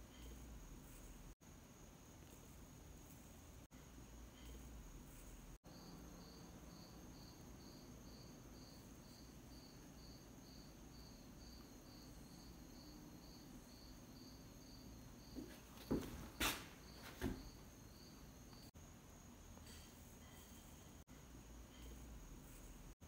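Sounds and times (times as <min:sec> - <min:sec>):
cricket chirping: 0:00.1 - 0:22.8.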